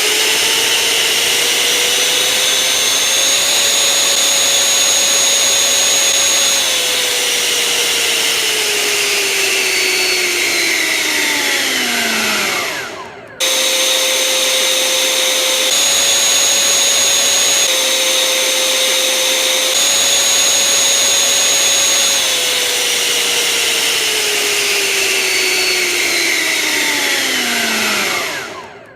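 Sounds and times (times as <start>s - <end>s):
electric ducted fan whining: 0.0s - 28.9s.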